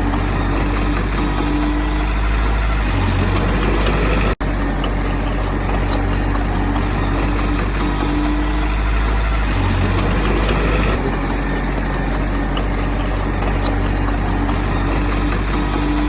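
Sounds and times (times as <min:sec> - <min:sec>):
heavy diesel machinery engine: 0:00.0 - 0:16.0.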